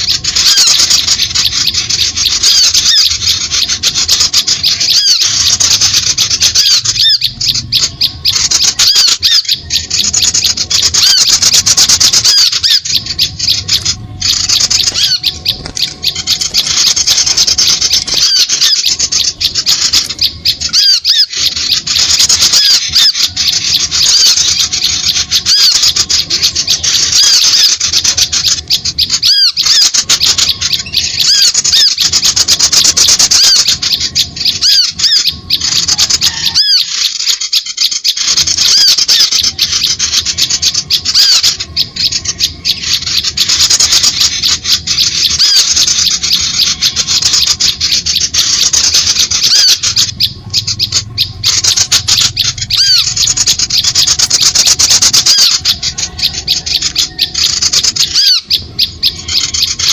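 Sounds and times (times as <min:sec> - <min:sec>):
small birds chirping rapidly: 0:00.0 - 0:59.9.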